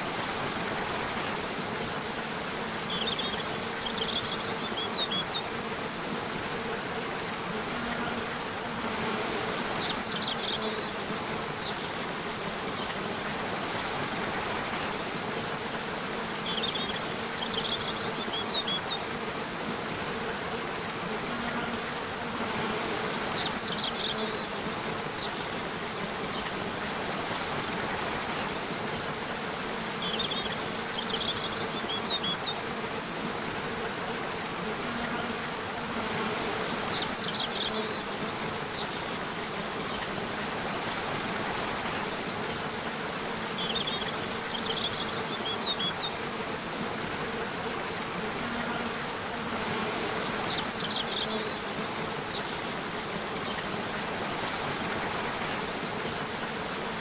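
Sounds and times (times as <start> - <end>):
flowing water rushing: 0.0 - 57.0
insect buzzing: 0.0 - 57.0.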